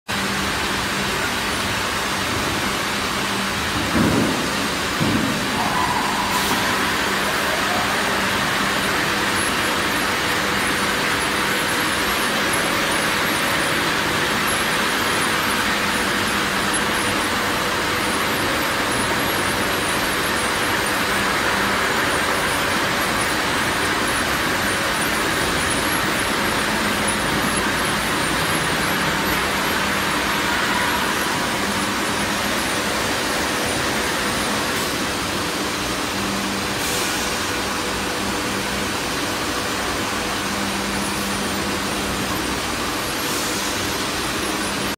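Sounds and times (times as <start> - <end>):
factory machine din: 0.1 - 44.9.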